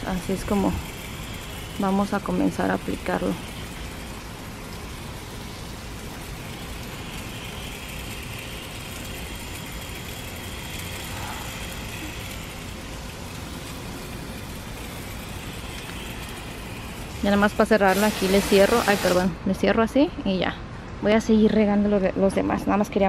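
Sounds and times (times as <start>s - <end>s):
hose sprayer hissing: 0.0s - 19.4s.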